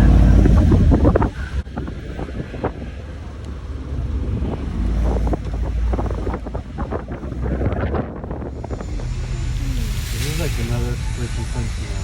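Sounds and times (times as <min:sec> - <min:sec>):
low vehicle rumble: 0:00.0 - 0:12.0
wind buffeting microphone: 0:00.0 - 0:12.0.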